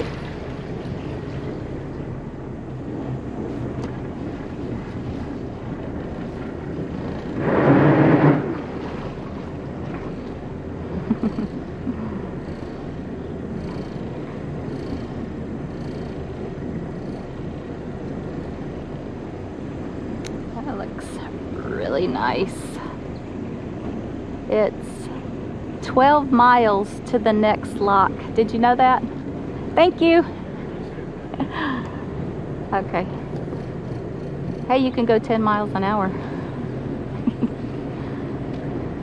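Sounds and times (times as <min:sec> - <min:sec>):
boat engines running: 0:00.0 - 0:39.0
water noise: 0:00.0 - 0:39.0
wind: 0:00.0 - 0:39.0.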